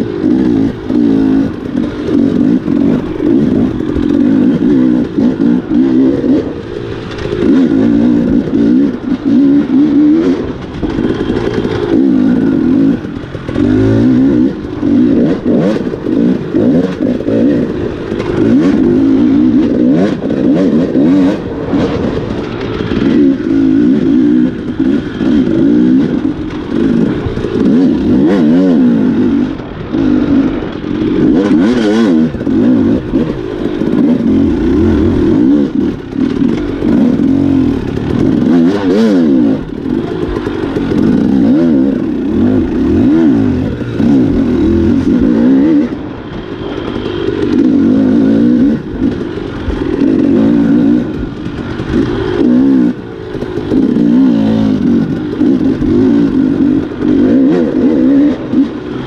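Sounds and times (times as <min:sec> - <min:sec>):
clatter: 0:00.0 - 0:59.0
dirt bike engine revving: 0:00.0 - 0:59.0.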